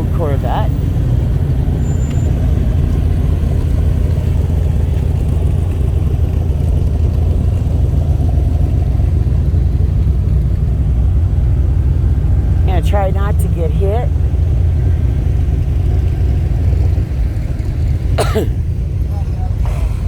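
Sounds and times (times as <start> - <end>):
car engines rumbling: 0.0 - 20.0.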